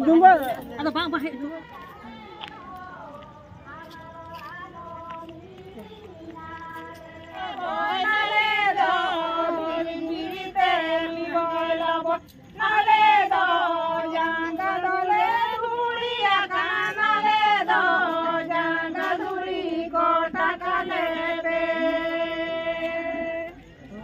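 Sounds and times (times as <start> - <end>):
women singing in unison: 0.0 - 24.0.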